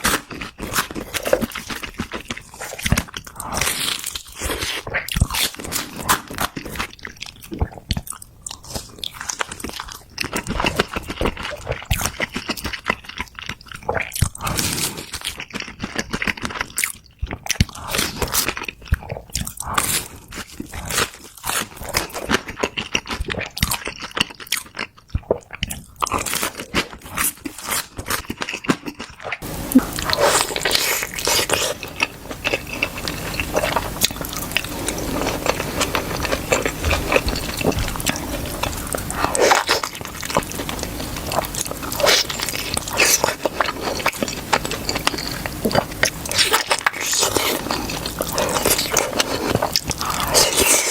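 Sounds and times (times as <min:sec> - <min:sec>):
chewing dumplings: 0:00.0 - 0:50.9.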